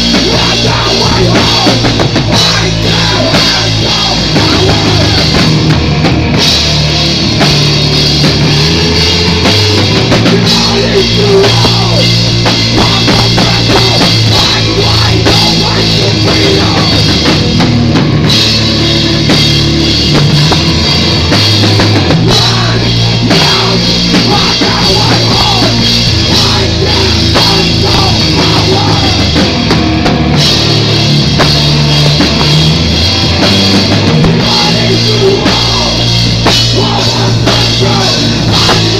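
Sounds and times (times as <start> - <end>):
drum kit: 0.0 - 38.9
live rock band playing: 0.0 - 38.9.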